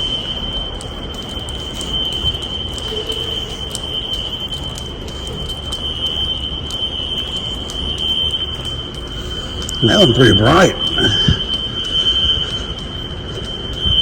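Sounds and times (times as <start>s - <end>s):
faint irregular ticks: 0.0s - 14.0s
fire alarm high-pitched tone: 0.0s - 14.0s.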